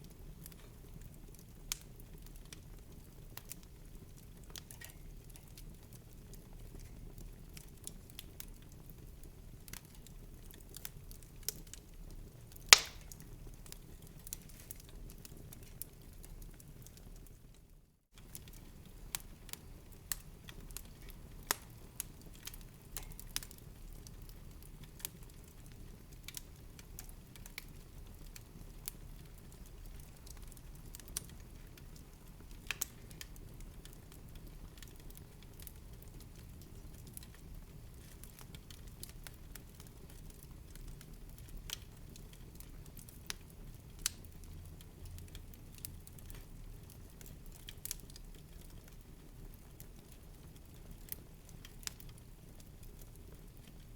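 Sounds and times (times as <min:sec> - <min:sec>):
low rumble of burning: 0:00.0 - 0:53.9
wood fire crackling: 0:00.0 - 0:53.9.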